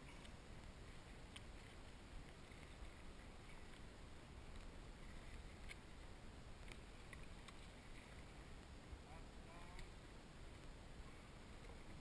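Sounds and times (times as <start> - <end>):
faint low rumble: 0.0 - 12.0
water lapping ticks: 0.0 - 12.0.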